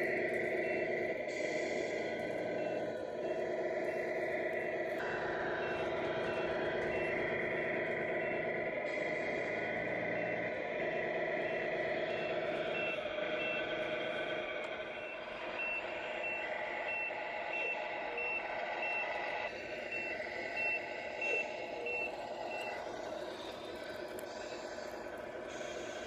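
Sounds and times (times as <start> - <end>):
steady engine hum: 0.0 - 26.0
reversing beeper beeps: 0.1 - 4.5, 5.6 - 23.5.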